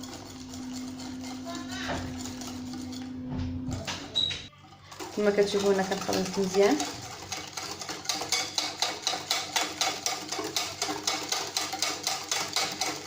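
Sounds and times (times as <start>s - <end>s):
whisk beating in a bowl: 0.0s - 13.0s.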